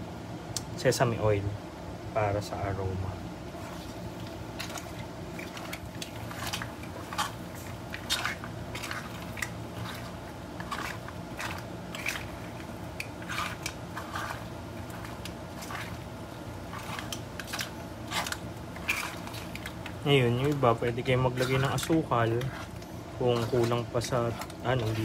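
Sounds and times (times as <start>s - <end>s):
steady sizzle: 0.0s - 25.0s
spatula scraping pot: 3.5s - 25.0s.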